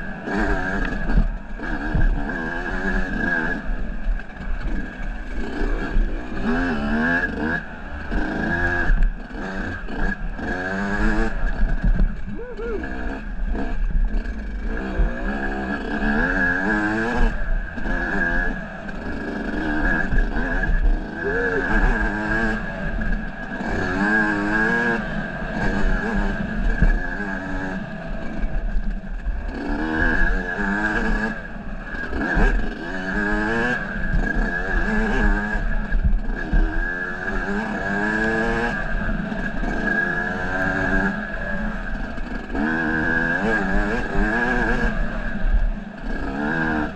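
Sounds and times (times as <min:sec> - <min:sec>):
off-road vehicle engine revving: 0:00.0 - 0:46.9.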